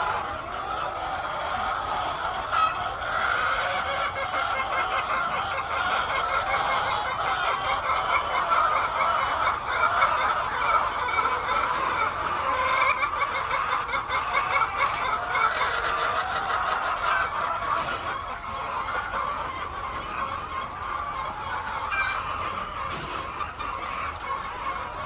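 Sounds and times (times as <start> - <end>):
chickens clucking and calling: 0.0 - 25.0.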